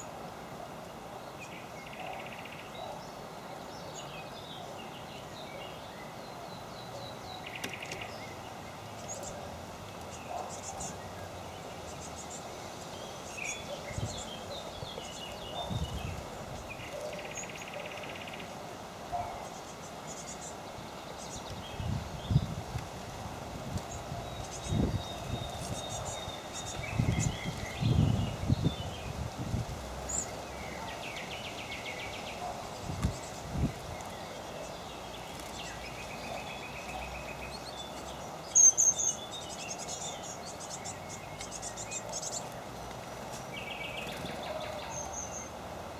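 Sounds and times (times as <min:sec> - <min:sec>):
outdoor background noise: 0:00.0 - 0:45.9
small songbirds chirping: 0:00.0 - 0:45.9
steady background hiss: 0:00.0 - 0:45.9
birds twittering: 0:00.8 - 0:45.9.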